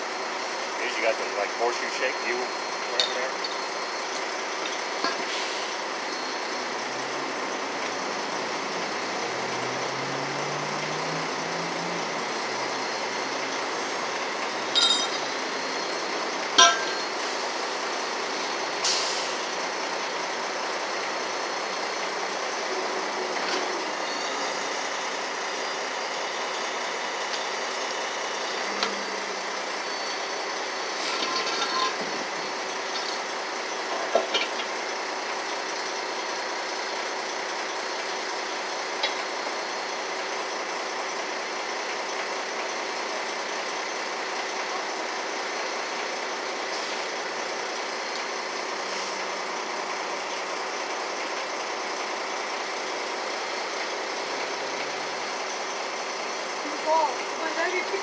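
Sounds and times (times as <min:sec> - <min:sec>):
heavy truck engine idling: 0:00.0 - 0:58.0.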